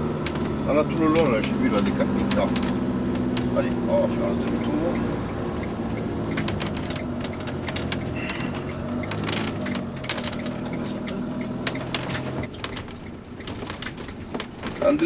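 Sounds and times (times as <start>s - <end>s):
motorhome engine running: 0.0s - 15.0s
irregular clicks and crackles: 1.2s - 3.6s, 4.4s - 15.0s.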